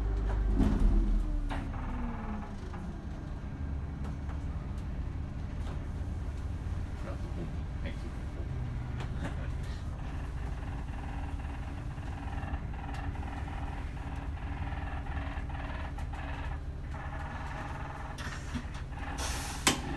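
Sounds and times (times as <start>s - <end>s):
bus engine rumble: 0.0s - 19.9s.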